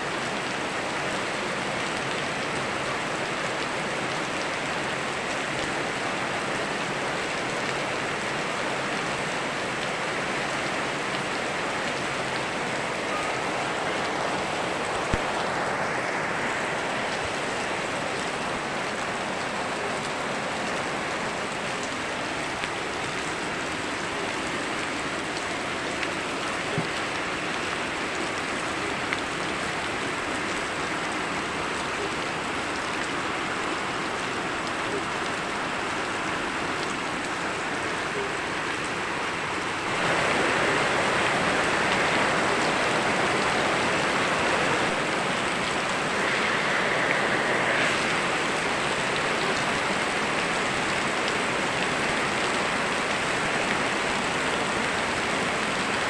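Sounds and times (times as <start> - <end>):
running stream water: 0.0 - 56.0
steady rain: 0.0 - 56.0.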